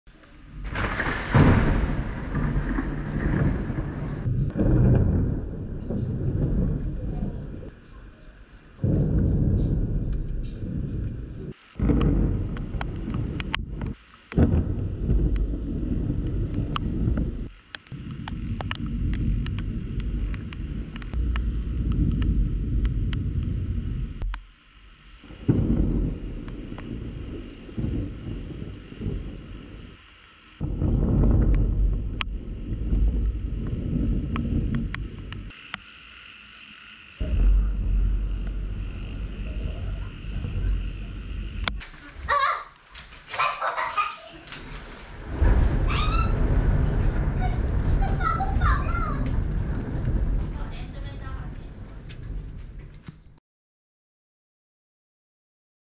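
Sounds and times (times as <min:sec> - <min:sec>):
raindrops ticking on housing: 0:00.1 - 0:36.2, 0:38.4 - 0:53.4
muffled thunder rumbling: 0:00.2 - 0:53.4.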